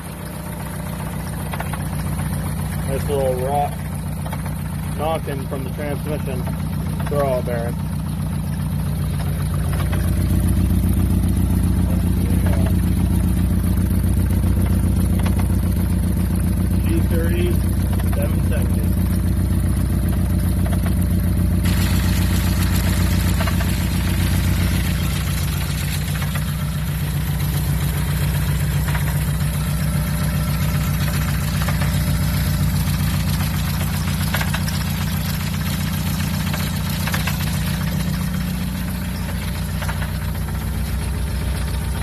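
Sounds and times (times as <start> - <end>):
car engine idling: 0.0 - 42.0
light engine ticks: 0.0 - 42.0.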